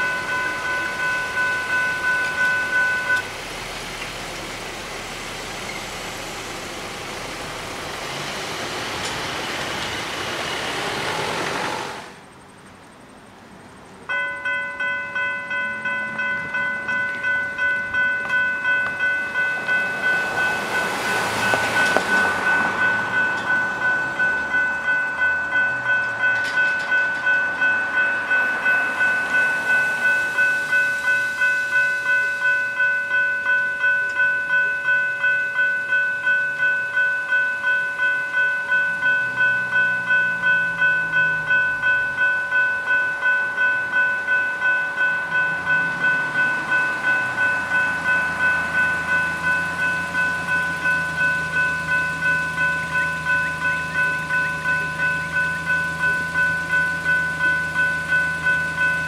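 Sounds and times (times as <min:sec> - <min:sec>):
level crossing electronic bell: 0:00.0 - 0:03.2, 0:14.1 - 0:59.0.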